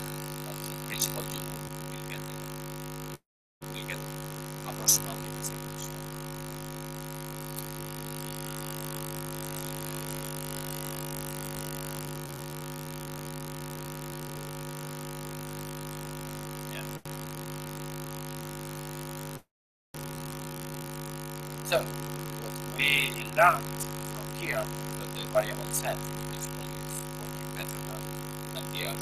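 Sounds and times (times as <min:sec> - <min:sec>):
electrical mains hum: 0:00.0 - 0:19.4, 0:20.0 - 0:29.0.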